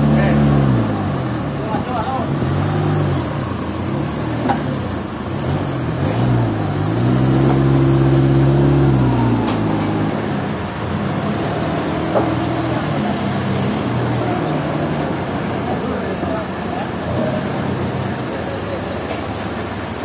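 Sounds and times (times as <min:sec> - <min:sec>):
engine revving: 0:00.0 - 0:18.4.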